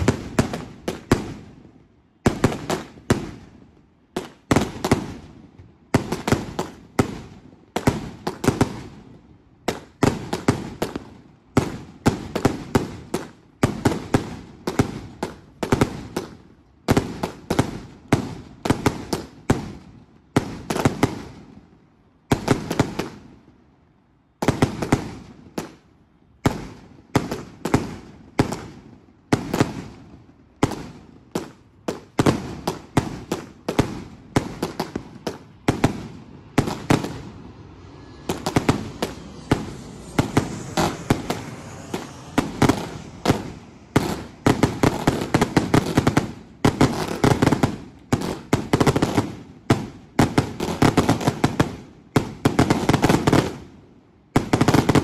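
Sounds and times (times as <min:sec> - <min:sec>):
fireworks bangs: 0:00.0 - 0:21.6, 0:22.2 - 0:23.6, 0:24.4 - 0:53.8.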